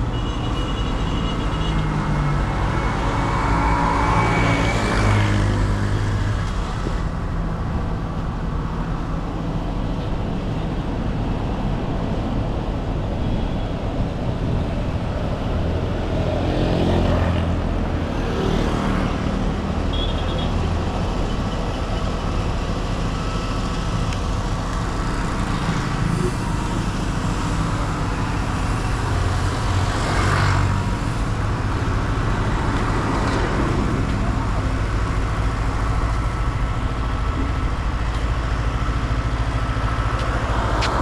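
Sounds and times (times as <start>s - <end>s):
traffic engine rumble: 0.0s - 41.0s
vehicles passing close: 0.0s - 41.0s.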